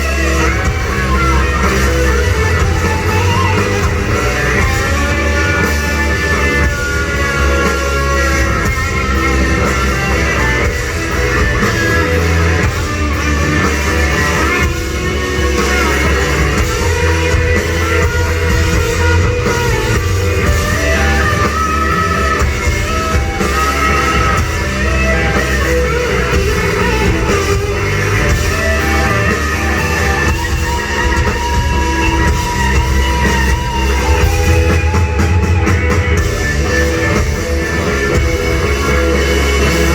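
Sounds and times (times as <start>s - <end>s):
drums: 0.0s - 39.9s
electric guitar with bending notes: 0.0s - 39.9s.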